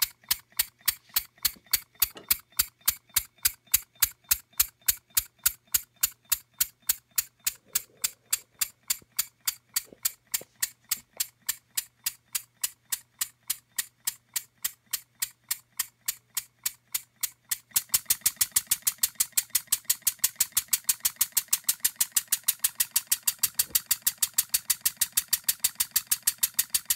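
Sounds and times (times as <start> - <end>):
model engine clicking: 0.0 - 26.9.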